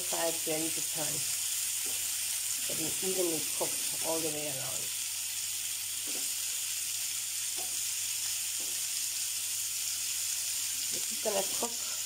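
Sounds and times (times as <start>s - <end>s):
meatballs sizzling in oil: 0.0s - 12.0s.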